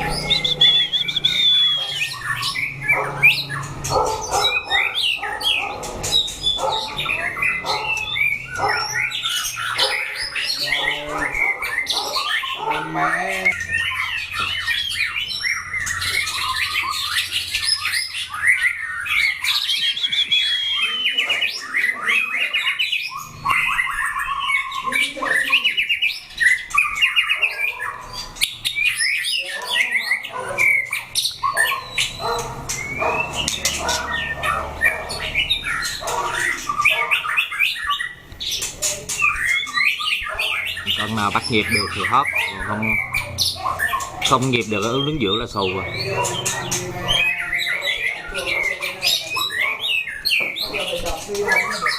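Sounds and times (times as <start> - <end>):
birds singing whistled phrases: 0.0 - 51.9.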